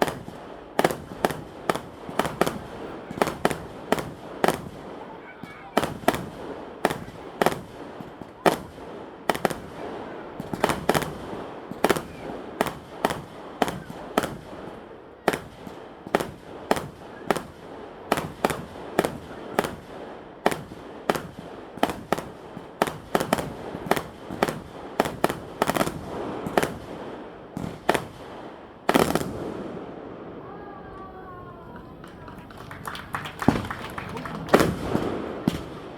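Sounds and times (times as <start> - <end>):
fireworks bangs: 0.0 - 35.9
fireworks crackle: 0.0 - 35.9.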